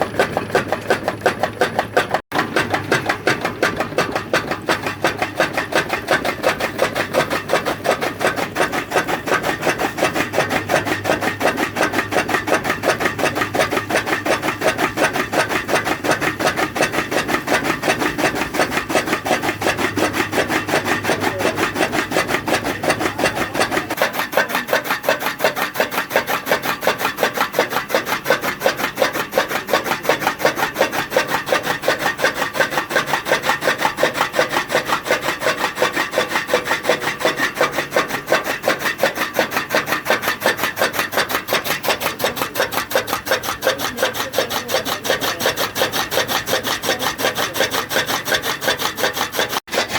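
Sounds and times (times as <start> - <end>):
fodder chopping rasping strokes: 0.0 - 49.9.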